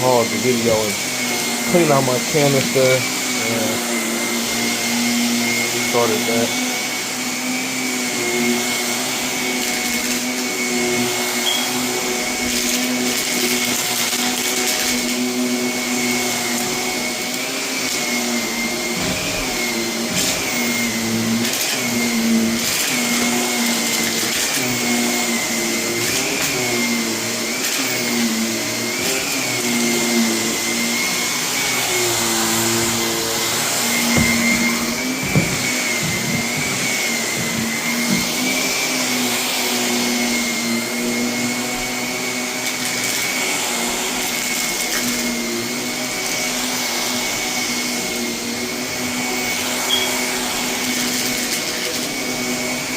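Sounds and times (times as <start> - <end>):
canister vacuum cleaner running: 0.0 - 52.9.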